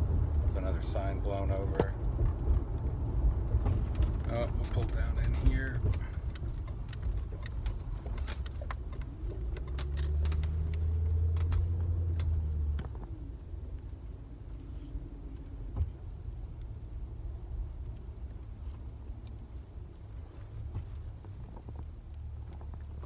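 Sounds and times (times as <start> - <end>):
car engine: 0.0 - 23.0
road noise inside car: 0.0 - 23.0.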